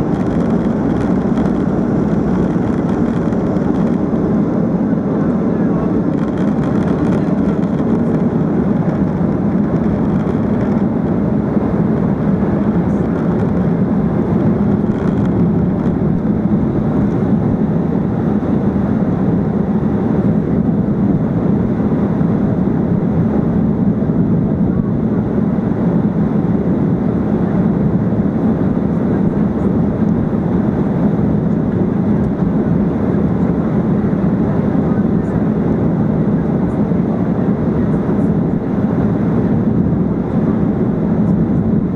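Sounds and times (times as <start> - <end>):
jet cabin rumble: 0.0 - 41.9.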